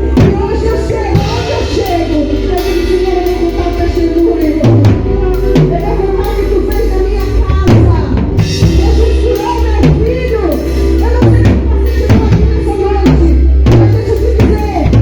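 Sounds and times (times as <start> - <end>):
drums: 0.0 - 15.0
guitar: 0.0 - 15.0
person singing: 0.0 - 15.0.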